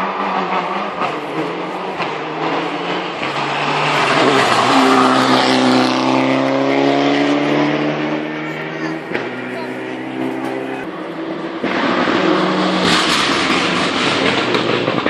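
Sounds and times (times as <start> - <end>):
rally car passing at speed: 0.0 - 15.0.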